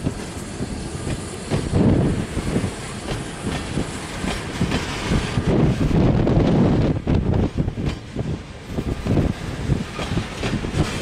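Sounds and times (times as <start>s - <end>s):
freight train wheels clattering: 0.0s - 11.0s.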